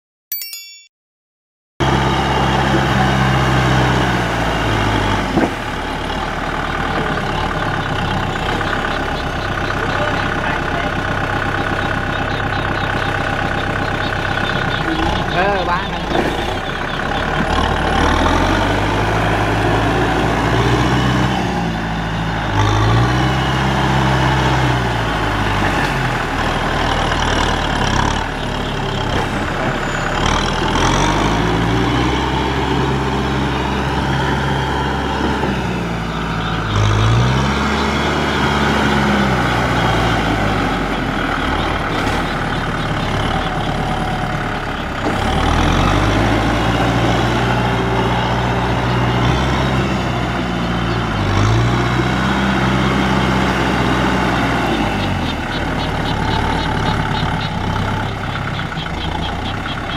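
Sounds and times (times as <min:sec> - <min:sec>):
tractor engine revving: 0:01.8 - 0:59.9.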